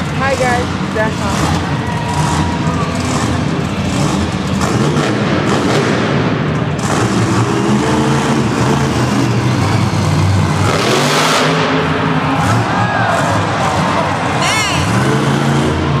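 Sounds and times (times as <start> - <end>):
truck engines revving: 0.0 - 16.0.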